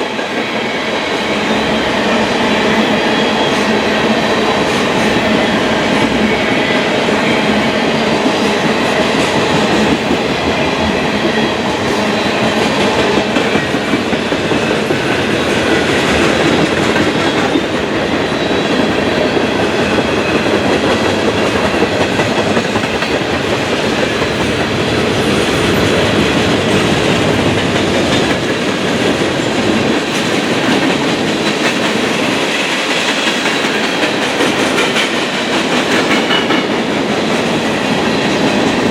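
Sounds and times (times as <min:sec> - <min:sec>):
train wheels on rail: 0:00.0 - 0:38.9.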